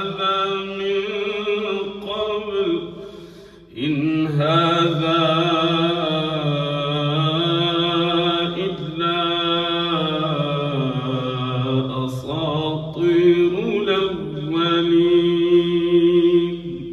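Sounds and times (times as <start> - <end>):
man chanting melodic recitation: 0.0 - 3.0, 3.7 - 16.9.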